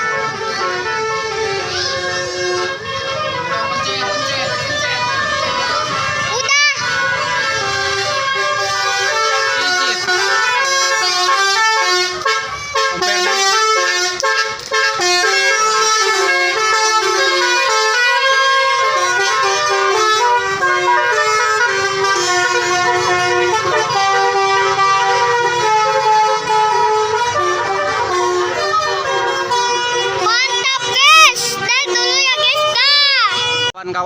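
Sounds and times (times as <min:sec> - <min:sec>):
musical bus horn playing a melody: 0:00.0 - 0:33.8.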